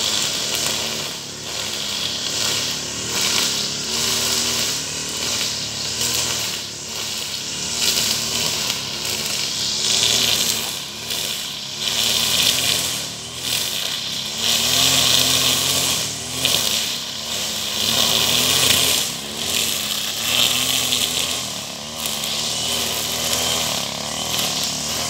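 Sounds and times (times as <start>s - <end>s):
brush cutter engine: 0.0s - 25.0s
cutting line hissing through grass: 0.0s - 25.0s.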